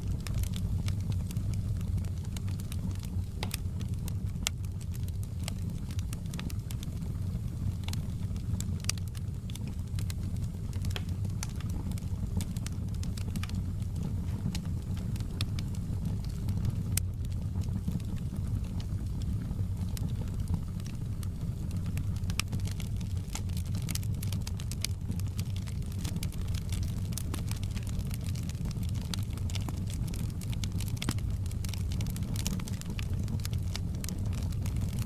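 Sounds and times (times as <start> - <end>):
low rumble of burning fire: 0.0 - 35.0
wood fire crackling and popping: 0.0 - 35.0.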